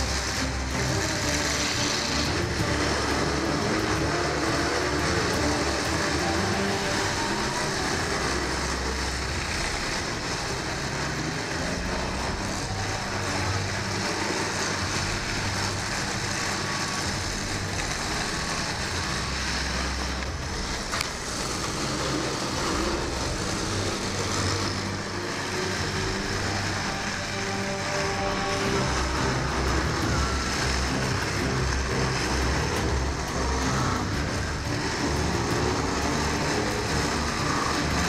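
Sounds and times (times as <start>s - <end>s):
many car engines rumbling: 0.0s - 38.0s.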